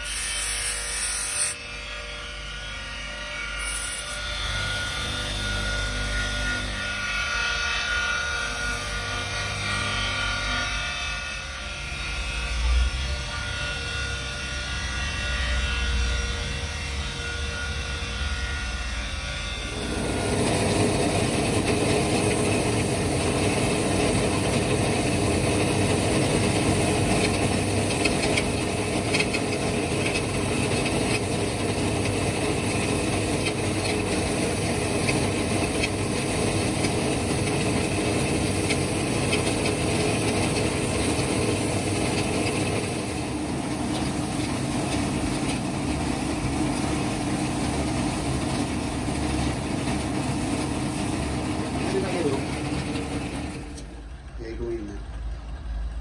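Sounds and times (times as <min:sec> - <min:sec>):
drill press running: 0:03.6 - 0:12.2, 0:12.9 - 0:56.0
wood pressed on buffing wheel: 0:03.6 - 0:12.2, 0:13.3 - 0:54.2.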